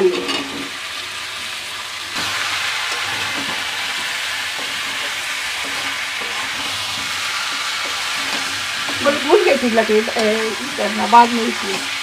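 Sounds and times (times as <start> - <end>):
food sizzling in a pan: 0.0 - 12.0
metal spatula stirring: 1.3 - 12.0.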